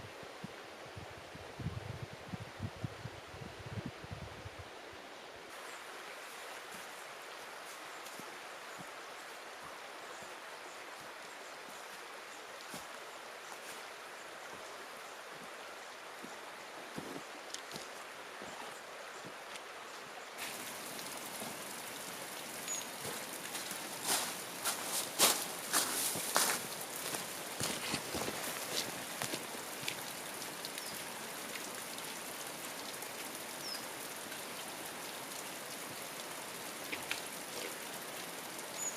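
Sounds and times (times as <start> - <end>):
mountain stream babbling: 4.0 - 38.9.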